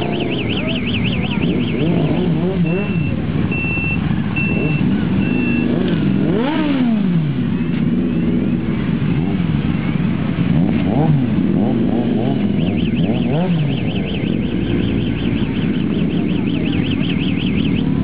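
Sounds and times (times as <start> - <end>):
sharp motorcycle rev: 0.0 - 8.6, 10.4 - 18.0
motorcycle engines blipping throttles: 0.0 - 18.0.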